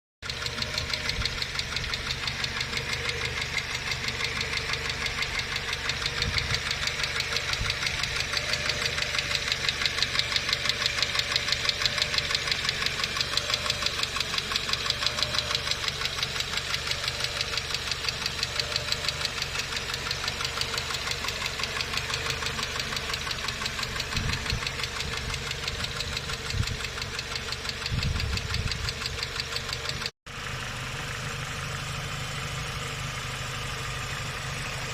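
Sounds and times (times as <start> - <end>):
valve lifters ticking: 0.2 - 30.1
car engine idling: 0.2 - 34.9.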